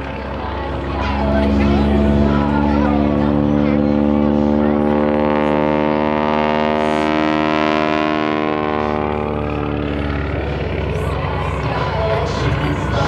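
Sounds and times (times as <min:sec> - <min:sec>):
biplane engine drone: 0:00.0 - 0:13.0.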